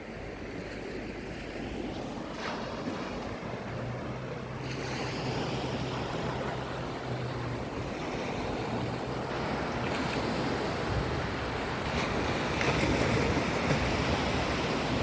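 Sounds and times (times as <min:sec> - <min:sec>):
sea waves washing: 0:00.0 - 0:15.0
low engine-like hum: 0:00.2 - 0:13.9
wind on microphone: 0:02.5 - 0:15.0.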